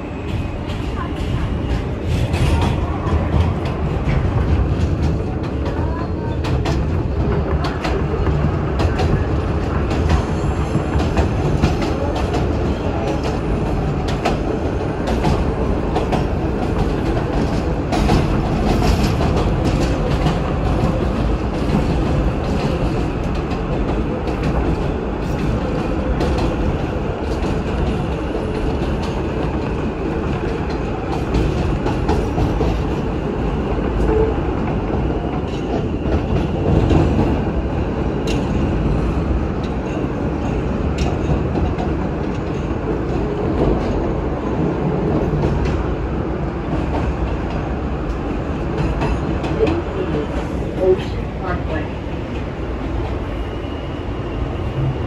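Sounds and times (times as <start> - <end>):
subway car rumble: 0.0 - 55.0.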